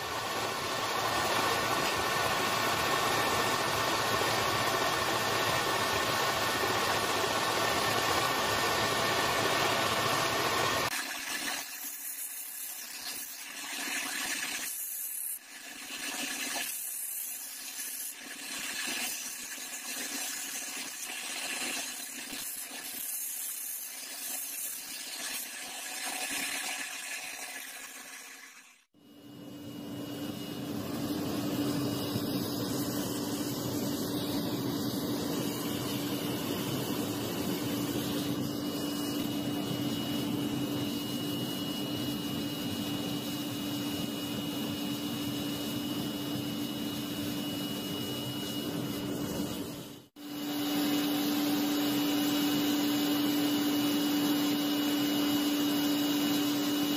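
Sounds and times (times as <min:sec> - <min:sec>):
gas forge rushing and humming: 0:00.0 - 0:28.5, 0:29.2 - 0:56.9.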